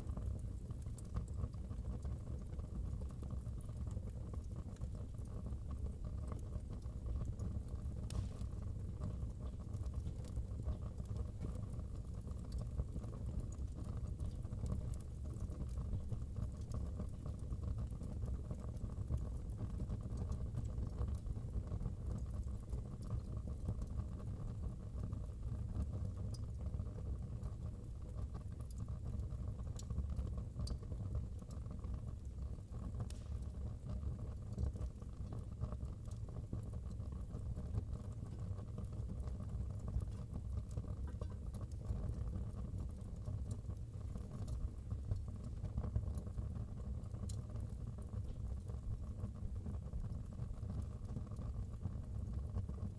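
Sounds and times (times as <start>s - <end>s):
wood fire crackling: 0.0s - 23.9s, 26.2s - 52.9s.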